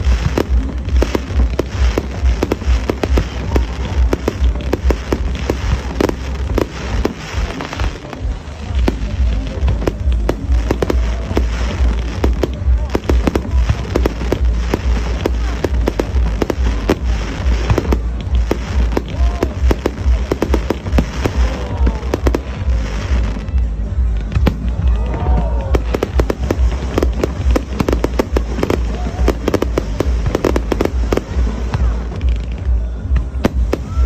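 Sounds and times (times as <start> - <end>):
fireworks crackling and banging: 0.0 - 34.0
heavy low rumble: 0.0 - 34.0
pitched fireworks glides: 0.0 - 34.0.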